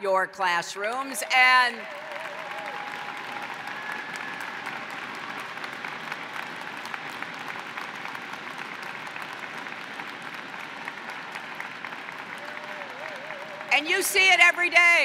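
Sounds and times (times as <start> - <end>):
audience applauding: 1.5 - 15.0.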